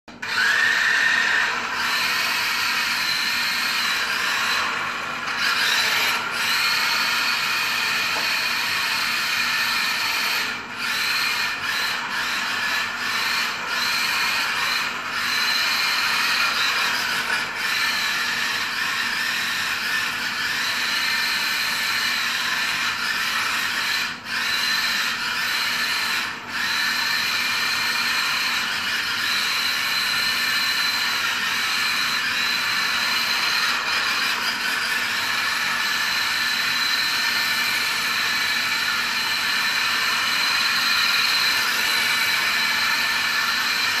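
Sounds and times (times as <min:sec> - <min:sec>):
electric motor whining: 0:00.1 - 0:44.0.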